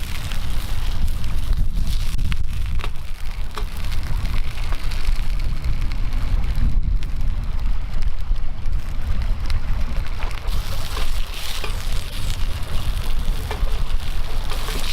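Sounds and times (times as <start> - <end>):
sharp fire pops: 0.0 - 14.9
strong low rumble: 0.0 - 14.9
wood fire crackling and hissing: 0.0 - 14.9.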